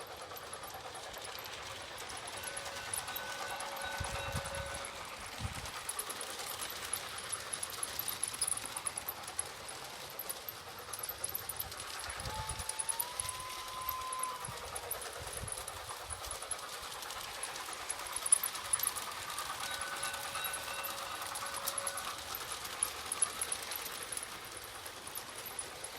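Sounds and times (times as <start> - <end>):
model train wheels clattering: 0.0 - 25.9.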